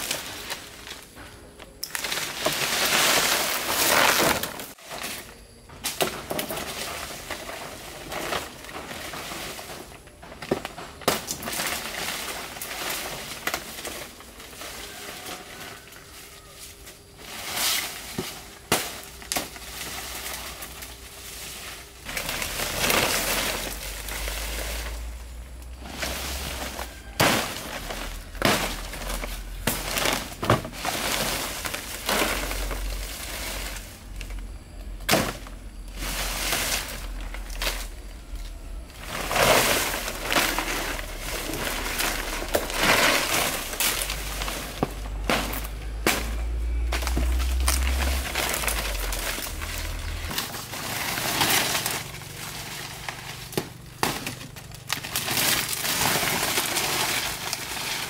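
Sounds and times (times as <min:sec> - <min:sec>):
leaf stalks snapping: 0:00.0 - 0:58.0
palm leaves rustling: 0:00.0 - 0:58.0.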